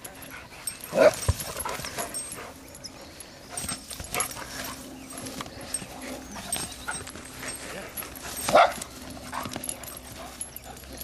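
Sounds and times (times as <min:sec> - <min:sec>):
small dog noises: 0:00.0 - 0:11.0
dogs scuffling: 0:00.3 - 0:02.7, 0:03.4 - 0:11.0.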